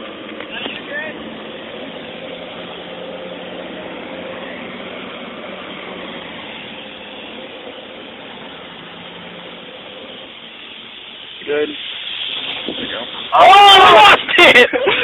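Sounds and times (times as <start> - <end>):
car engine hum: 0.0 - 15.0
road noise inside car: 0.0 - 15.0.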